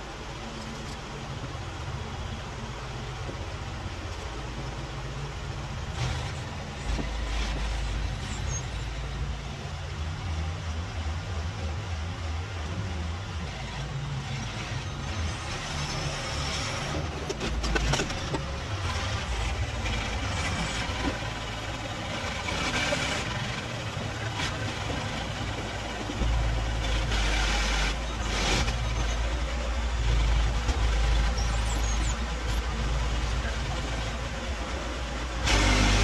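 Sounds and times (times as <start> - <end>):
heavy engine running: 0.0 - 36.0.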